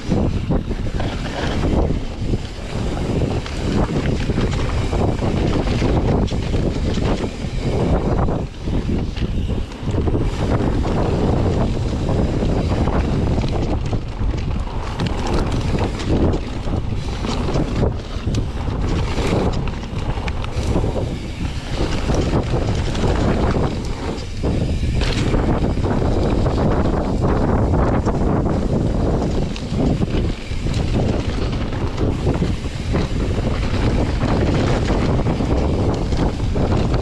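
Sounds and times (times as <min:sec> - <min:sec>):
bike knocking and rattling: 0:00.0 - 0:37.0
tyre noise on dirt: 0:00.0 - 0:37.0
wind rushing over microphone: 0:00.0 - 0:37.0.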